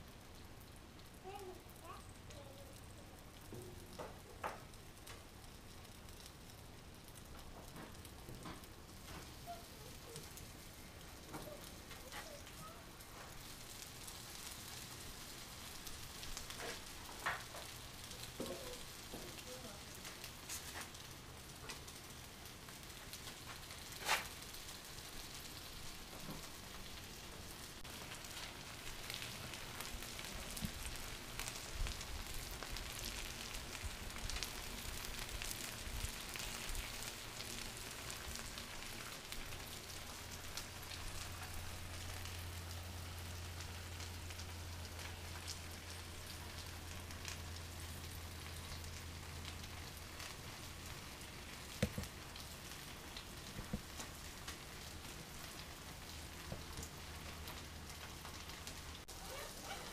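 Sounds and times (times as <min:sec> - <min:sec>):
potatoes sizzling in oil: 0:00.0 - 0:59.9.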